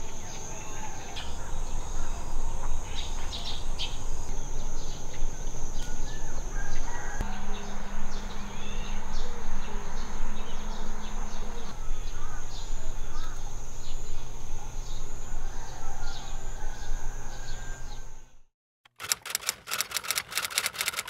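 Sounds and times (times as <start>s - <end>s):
insects trilling: 0.0s - 18.2s.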